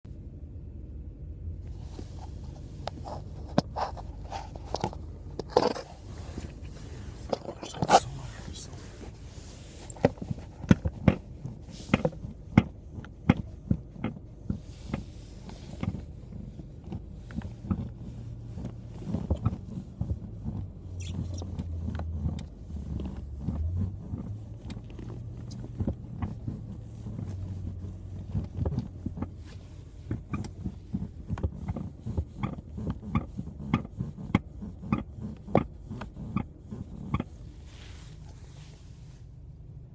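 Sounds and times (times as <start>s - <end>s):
low steady rumble: 0.0s - 39.9s
car seat clicking and creaking: 1.7s - 38.5s.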